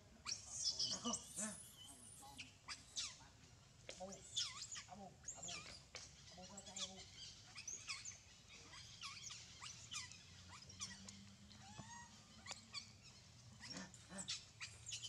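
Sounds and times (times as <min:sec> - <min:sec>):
animal squeaks and chirps: 0:00.2 - 0:03.3, 0:03.9 - 0:15.0.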